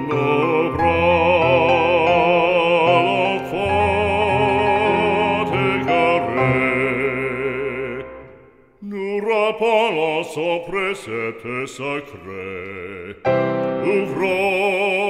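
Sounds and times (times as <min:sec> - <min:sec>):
hymn singing with vibrato: 0:00.0 - 0:15.0.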